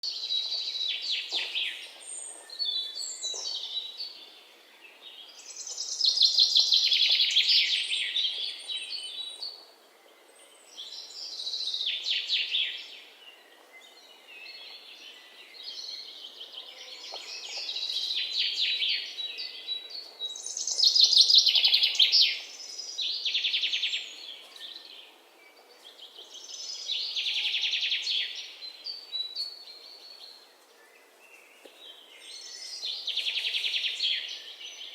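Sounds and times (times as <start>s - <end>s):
faint outdoor hiss: 0.0s - 34.9s
songbirds trilling and chirping: 0.0s - 34.9s.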